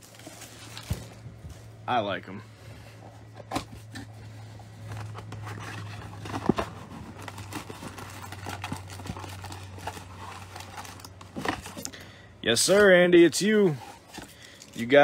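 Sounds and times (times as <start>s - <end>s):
cardboard rustling and scraping: 0.0s - 1.8s, 2.4s - 11.9s, 12.6s - 15.0s
low steady hum: 0.0s - 15.0s.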